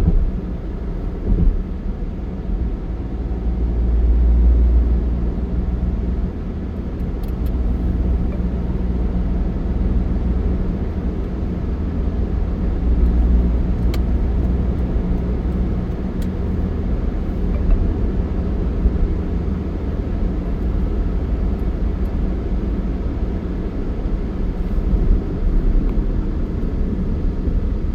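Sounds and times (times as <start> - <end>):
road vehicle rumble: 0.0 - 27.9.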